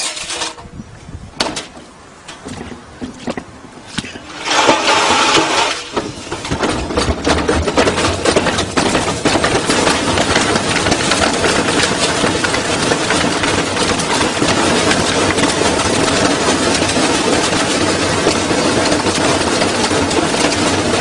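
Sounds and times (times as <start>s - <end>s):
washing machine banging and clattering: 1.4s - 3.4s, 4.3s - 21.0s.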